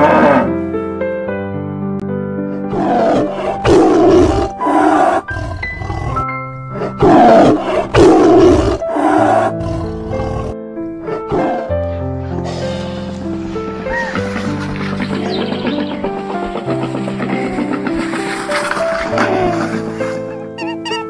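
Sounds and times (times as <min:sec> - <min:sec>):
lion roaring and growling: 0:00.0 - 0:00.6, 0:02.7 - 0:20.8
background music with held notes: 0:00.0 - 0:21.0.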